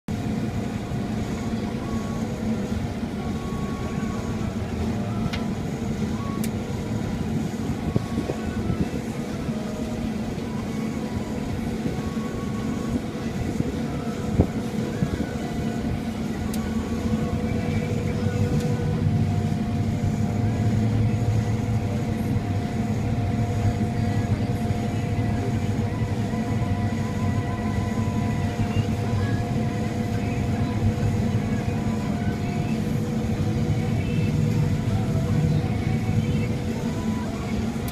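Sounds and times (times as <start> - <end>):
combine harvester drone: 0.0 - 37.9
machinery whines: 0.1 - 37.9.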